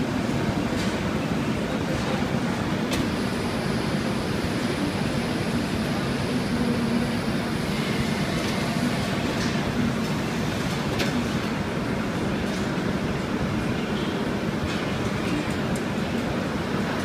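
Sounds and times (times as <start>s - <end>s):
factory machine noise: 0.0s - 17.0s.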